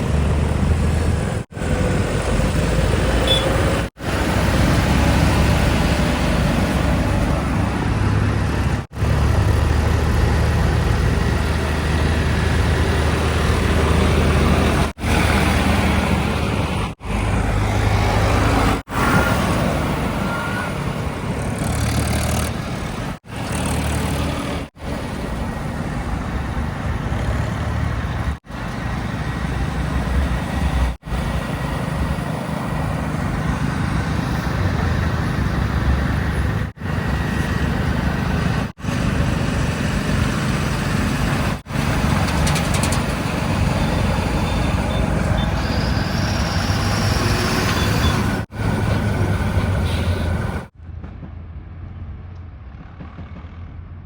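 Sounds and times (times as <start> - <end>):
diesel engines rumbling: 0.0 - 54.0.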